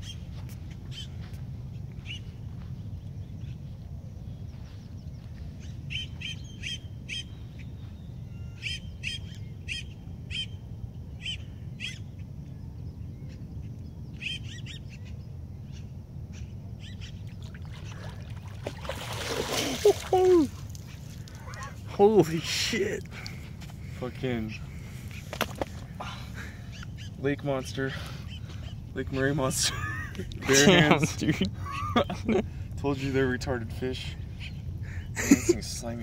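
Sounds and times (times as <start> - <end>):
steady low rumble: 0.0 - 36.0
wild birds chirping: 0.0 - 36.0.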